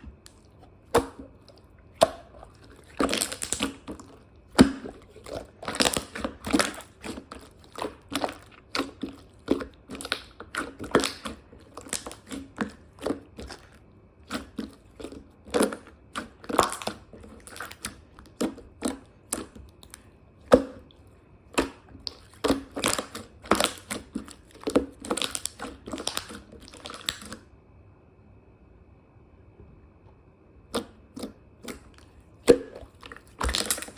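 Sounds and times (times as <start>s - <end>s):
squishy crackling clicks: 0.2s - 20.1s, 21.6s - 27.4s, 30.7s - 33.9s.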